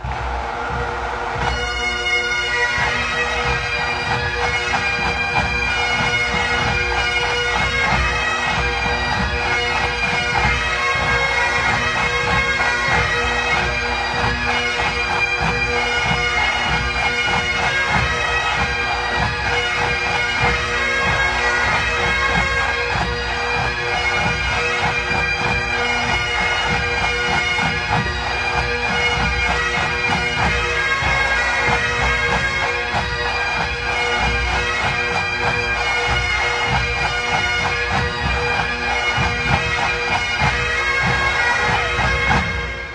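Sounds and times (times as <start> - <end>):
massed bagpipes playing: 0.0 - 42.9.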